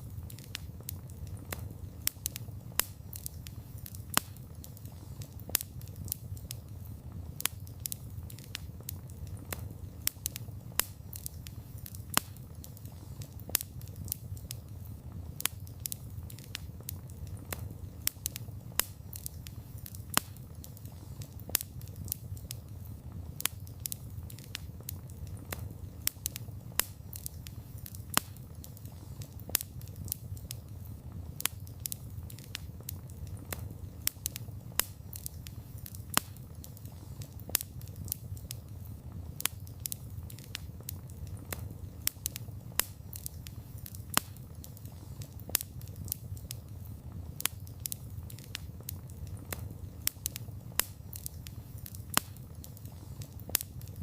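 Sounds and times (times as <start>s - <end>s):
burning wood crackling: 0.0s - 54.0s
fire flames rumbling: 0.0s - 54.0s.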